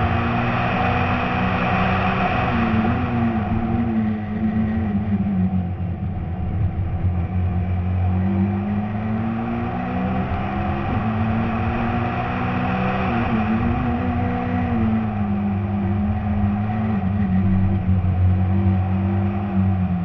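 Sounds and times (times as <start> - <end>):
car engine revving at speed: 0.0 - 20.0
road and wind noise: 0.0 - 20.0.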